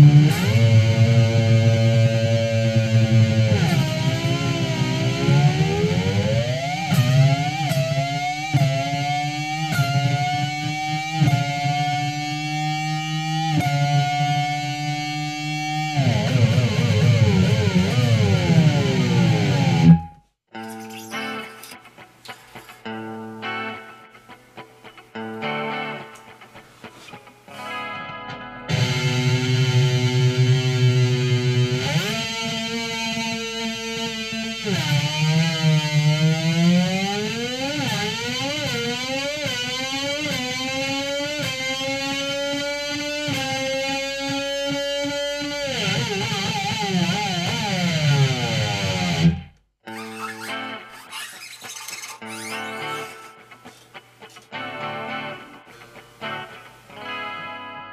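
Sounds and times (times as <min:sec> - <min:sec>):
electric guitar strings plucked: 0:00.0 - 0:22.1, 0:22.8 - 0:51.1.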